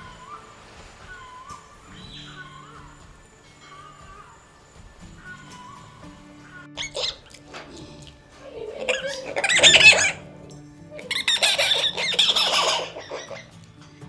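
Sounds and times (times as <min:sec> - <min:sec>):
primate screeching: 0:00.0 - 0:13.6
background music: 0:00.0 - 0:14.0.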